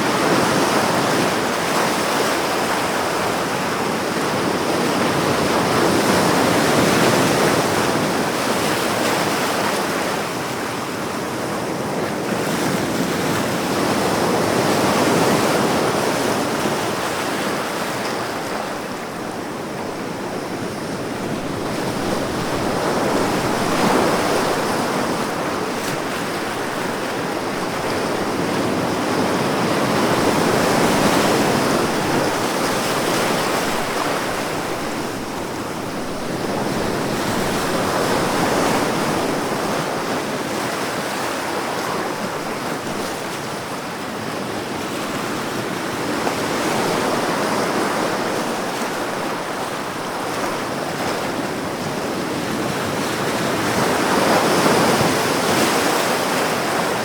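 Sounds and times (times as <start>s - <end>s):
ocean waves surf: 0.0s - 57.0s.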